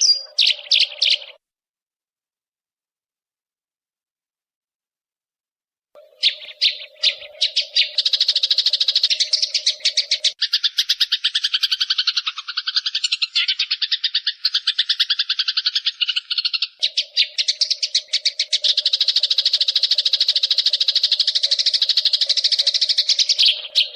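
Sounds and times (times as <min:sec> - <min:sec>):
sparrow chirps and rattling chatter: 0:00.0 - 0:01.4, 0:06.0 - 0:23.9.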